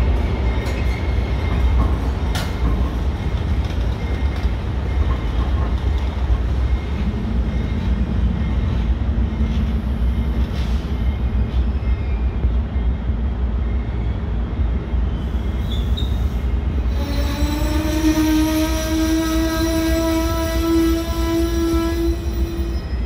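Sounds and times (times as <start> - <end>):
train wheels rumbling on rails: 0.0 - 23.0
wheels squealing on rails: 0.0 - 23.0.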